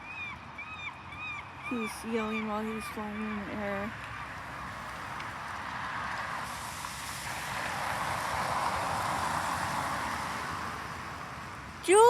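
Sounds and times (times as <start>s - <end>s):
car passing: 0.9s - 12.0s.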